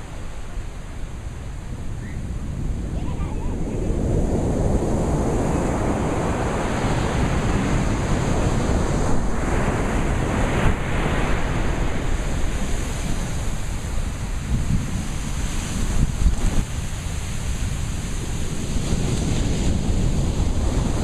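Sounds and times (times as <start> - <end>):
sea surf washing onto beach: 0.0 - 21.0.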